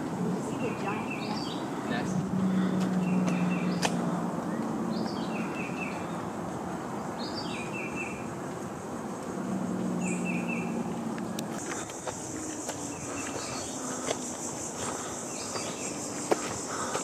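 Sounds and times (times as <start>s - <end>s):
forest background hiss: 0.0s - 17.0s.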